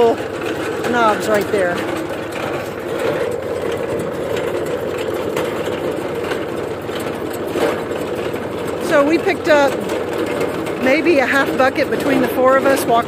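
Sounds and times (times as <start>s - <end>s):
machinery rattle: 0.0s - 13.0s
tractor engine running: 0.0s - 13.0s.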